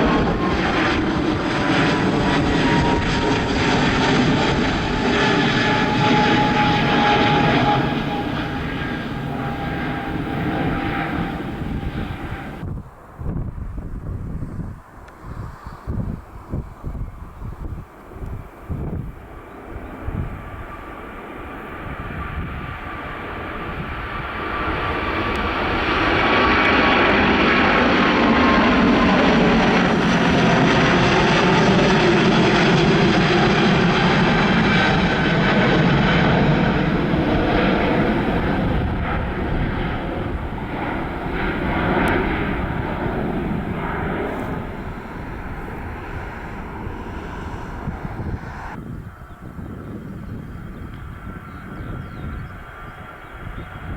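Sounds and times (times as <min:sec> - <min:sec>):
airliner engines whining: 0:00.0 - 0:53.9.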